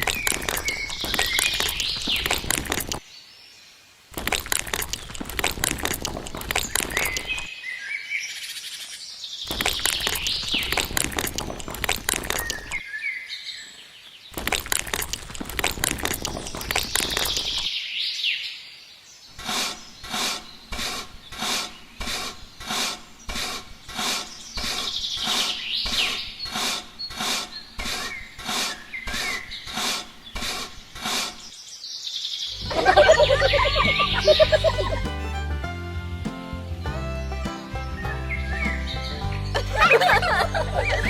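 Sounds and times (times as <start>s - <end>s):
birds chirping: 0.0s - 35.6s, 36.3s - 41.0s.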